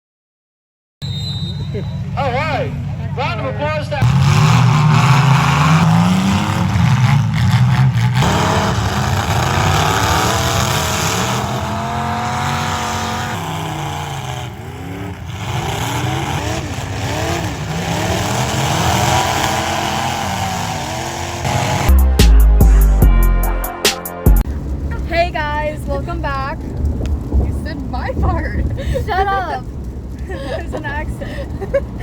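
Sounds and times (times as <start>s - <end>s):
car engines revving: 1.1s - 23.0s, 24.4s - 32.0s.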